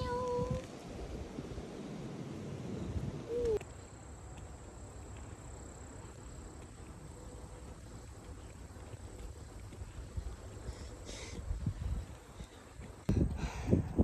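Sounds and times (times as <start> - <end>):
outdoor background noise: 0.0 - 14.0
cricket chirping steady tone: 1.8 - 13.2.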